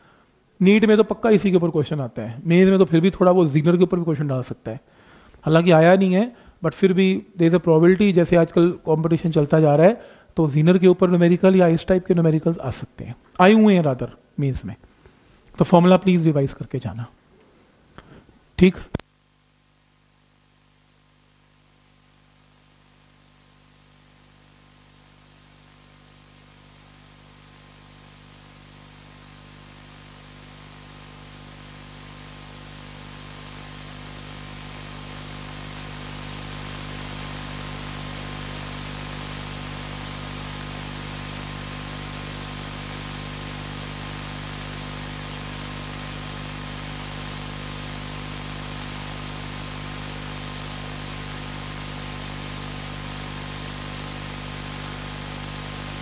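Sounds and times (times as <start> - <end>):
electrical hiss and static: 0.0 - 56.0.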